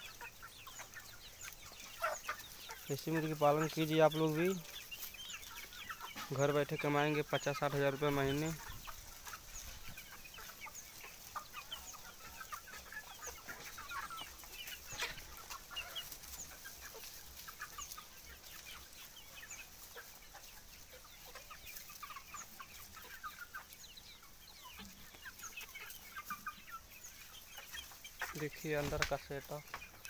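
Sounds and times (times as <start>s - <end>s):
chickens clucking and calling: 0.0s - 30.0s.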